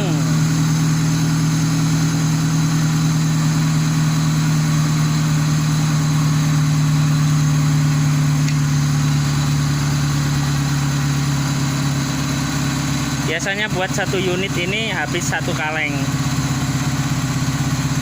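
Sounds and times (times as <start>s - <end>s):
air-conditioning compressor running: 0.0s - 18.0s
car engine idling: 0.0s - 18.0s.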